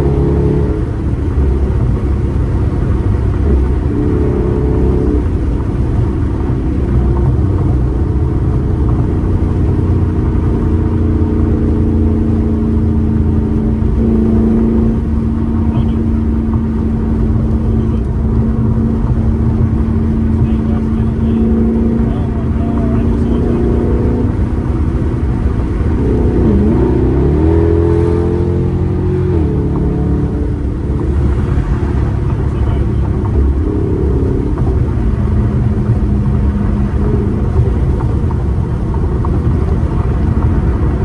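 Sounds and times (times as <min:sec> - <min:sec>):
car engine running: 0:00.0 - 0:41.0
road and wind noise: 0:00.0 - 0:41.0.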